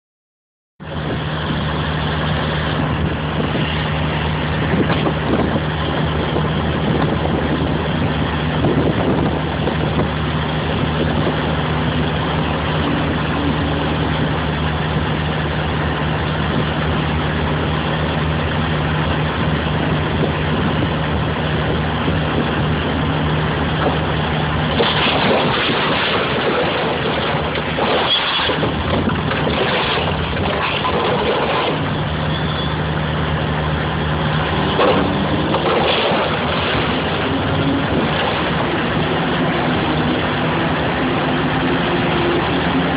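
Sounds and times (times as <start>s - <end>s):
constant low hum: 0.8s - 42.9s
excavator engine drone: 0.8s - 42.9s
bucket crushing truck: 1.1s - 42.9s.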